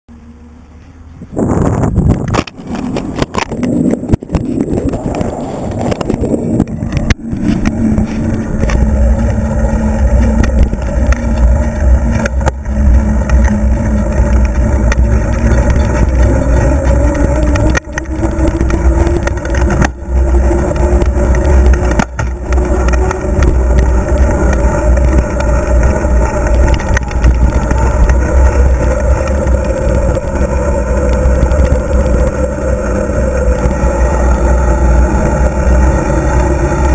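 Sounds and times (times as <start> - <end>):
wind buffeting microphone: 1.1 - 36.9.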